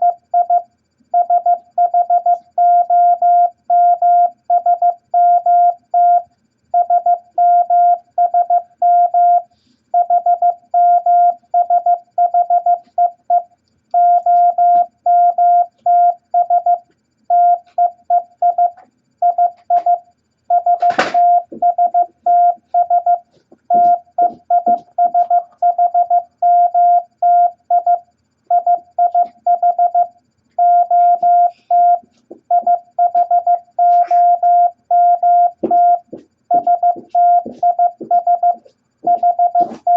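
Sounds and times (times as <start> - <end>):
morse code beeps: 0.0 - 0.6, 1.2 - 39.9.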